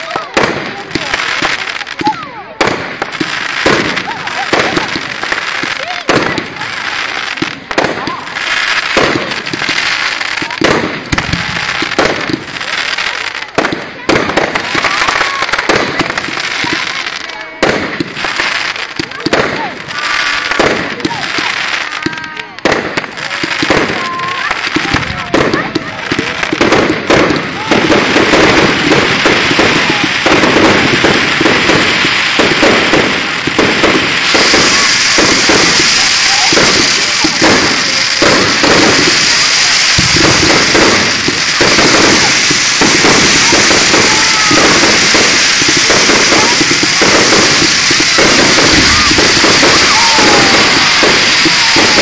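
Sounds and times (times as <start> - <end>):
fireworks bangs: 0.0 - 52.0
fireworks crackling: 0.0 - 52.0.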